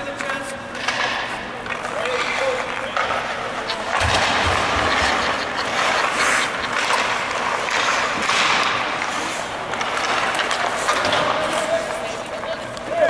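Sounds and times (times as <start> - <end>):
hockey sticks and pucks clicking: 0.0 - 13.0
skate blades scraping on ice: 1.8 - 12.6.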